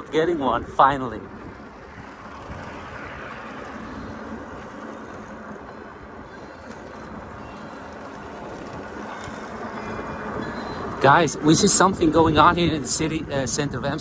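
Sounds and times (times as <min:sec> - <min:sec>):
city street noise: 0:00.0 - 0:14.0.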